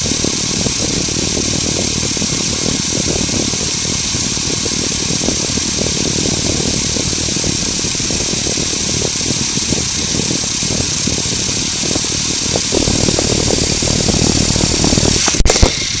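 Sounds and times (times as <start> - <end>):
electric motor whirring: 0.0 - 16.0
plastic gears and wheels rattling: 0.0 - 16.0.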